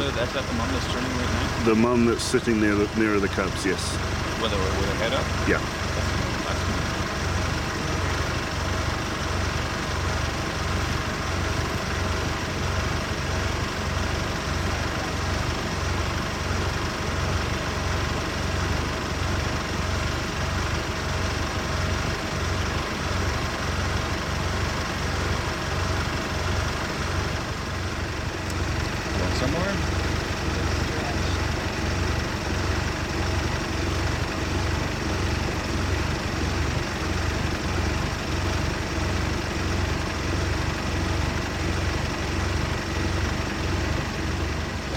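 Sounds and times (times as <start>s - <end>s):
vehicle engine idling: 0.0s - 44.9s.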